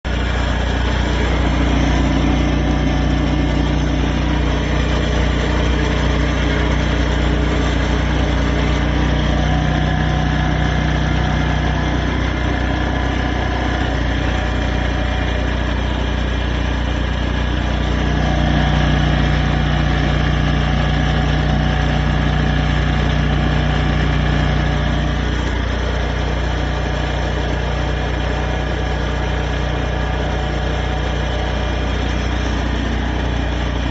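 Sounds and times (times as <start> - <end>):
generator engine humming: 0.0 - 33.9.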